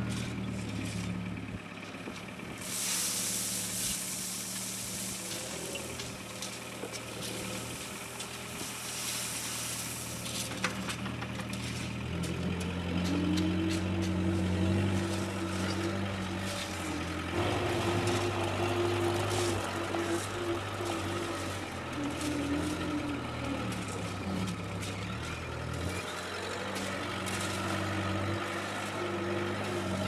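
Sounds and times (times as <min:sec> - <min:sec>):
shovels scraping gravel: 0:00.0 - 0:01.4, 0:02.2 - 0:30.0
loader tractor engine: 0:00.0 - 0:30.0.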